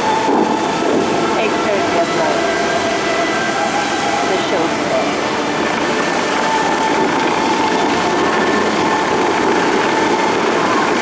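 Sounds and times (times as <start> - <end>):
fountain water rushing hiss: 0.0 - 11.0.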